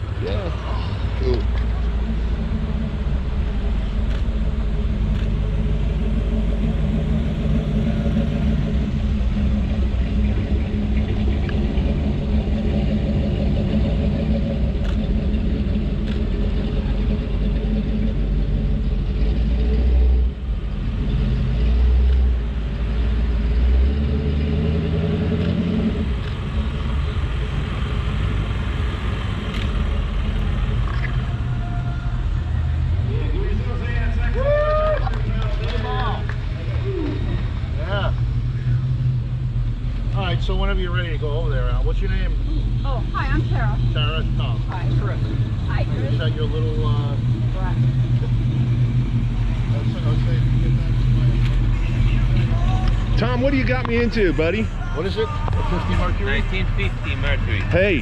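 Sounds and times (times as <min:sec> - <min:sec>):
car engines passing slowly: 0:00.0 - 0:58.0.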